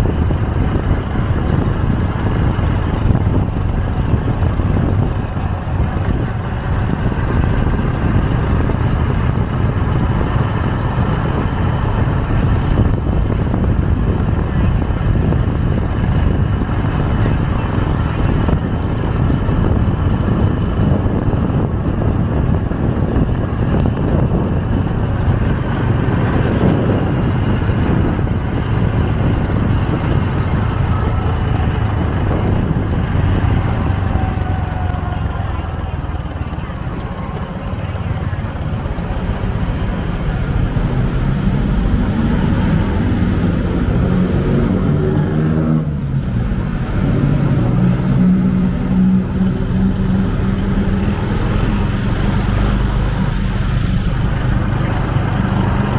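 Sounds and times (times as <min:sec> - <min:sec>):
motorcycle engine hum: 0:00.0 - 0:55.9
wind and road noise: 0:00.0 - 0:55.9.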